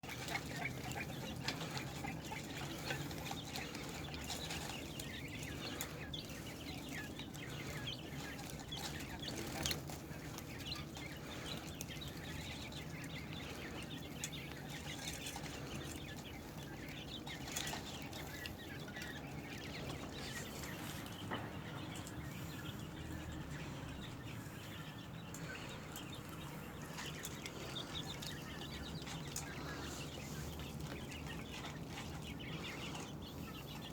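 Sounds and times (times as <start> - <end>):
quail pecking and rustling: 0.0 - 33.9
small high bird calls: 0.0 - 33.9.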